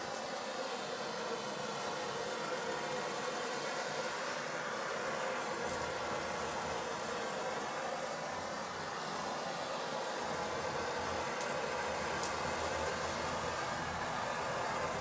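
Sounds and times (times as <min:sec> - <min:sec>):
propane torch hissing: 0:00.0 - 0:15.0.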